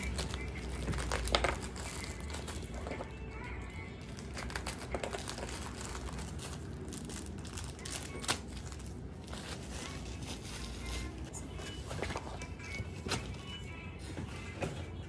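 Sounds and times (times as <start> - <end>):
plastic bags crinkling: 0.0 - 13.6.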